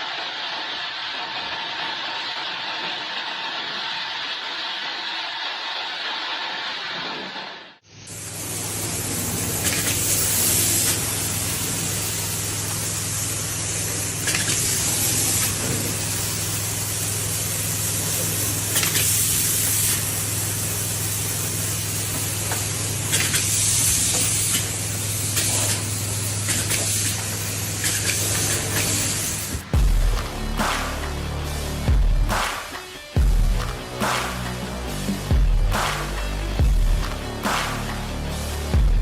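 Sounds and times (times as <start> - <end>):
hissing spray: 0.0 - 31.6.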